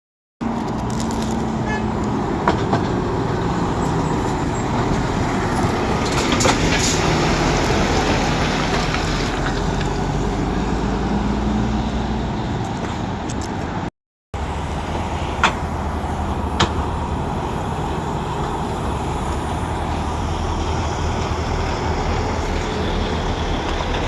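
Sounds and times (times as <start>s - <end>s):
lorry diesel engine running: 0.4s - 12.6s, 14.4s - 24.0s
road traffic noise: 0.4s - 24.0s.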